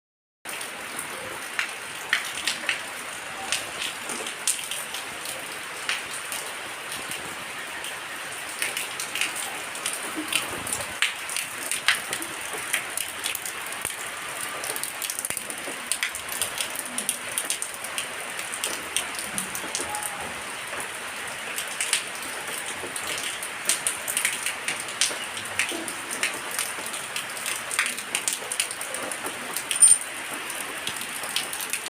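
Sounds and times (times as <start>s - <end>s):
steady rain: 0.5s - 31.9s.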